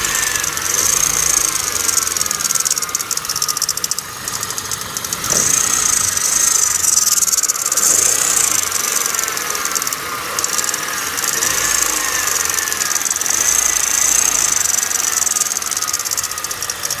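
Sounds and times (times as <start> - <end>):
engine knocking tick: 0.0 - 17.0
faint wavering whine: 0.0 - 17.0.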